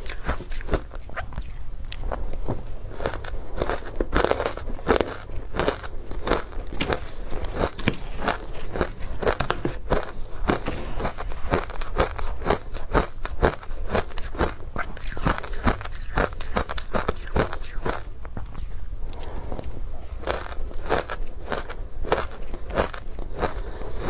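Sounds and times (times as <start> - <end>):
crunchy ice chewing: 0.0 - 18.7, 19.6 - 24.0.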